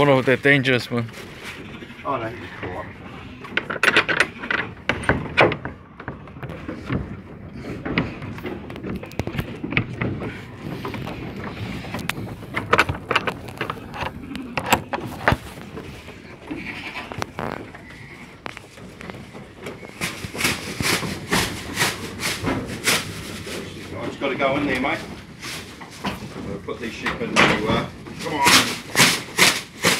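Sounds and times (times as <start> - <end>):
hooves knocking on wooden slats: 2.6 - 29.9.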